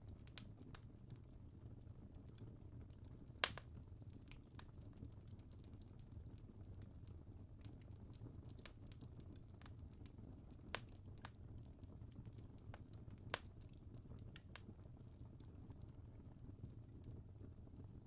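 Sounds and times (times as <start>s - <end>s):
fire popping: 0.0s - 18.0s
fireplace crackling: 0.0s - 18.0s
low rumble of fire: 0.0s - 18.0s.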